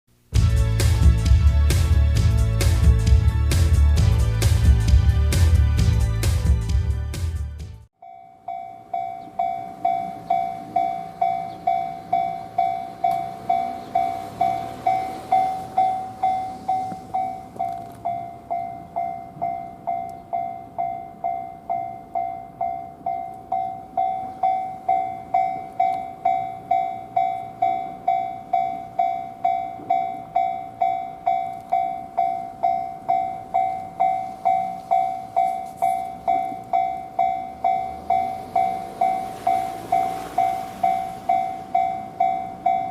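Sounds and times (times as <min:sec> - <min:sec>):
level crossing alarm bell ringing: 0:08.0 - 0:42.9.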